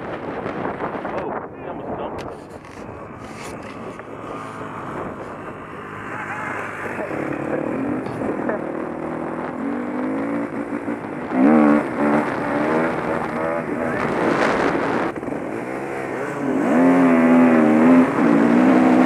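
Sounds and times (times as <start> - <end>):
wind rush on helmet camera: 0.0 - 19.0
dirt bike engine revving: 2.6 - 19.0.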